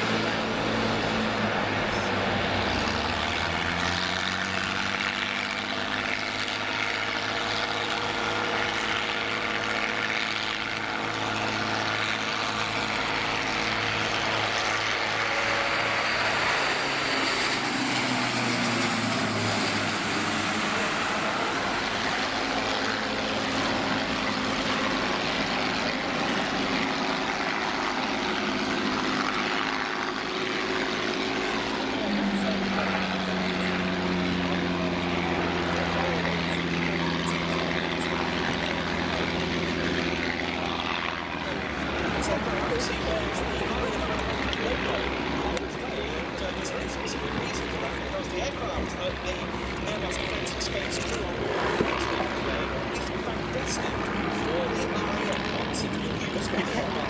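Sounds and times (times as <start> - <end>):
propeller aircraft drone: 0.0 - 57.0.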